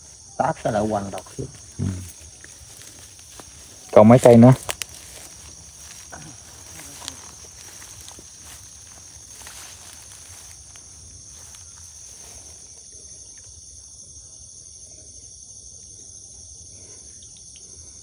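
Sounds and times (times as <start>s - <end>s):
night insects chorus: 0.0s - 18.0s.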